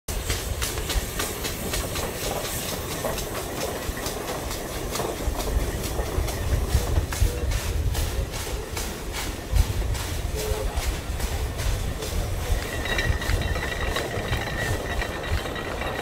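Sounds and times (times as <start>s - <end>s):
steam engine exhaust chuffing: 0.1s - 16.0s.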